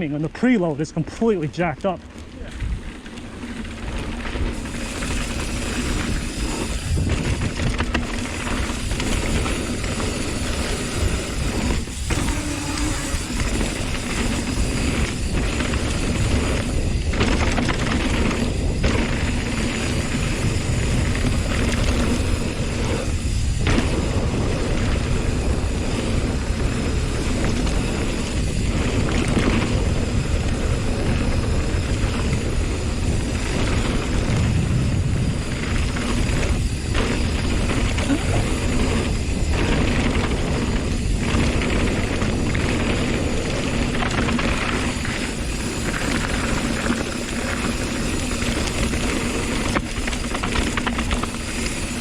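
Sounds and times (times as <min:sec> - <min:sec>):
mountain bike rumbling and rattling: 0:00.0 - 0:52.0
wind rushing over microphone: 0:00.0 - 0:52.0.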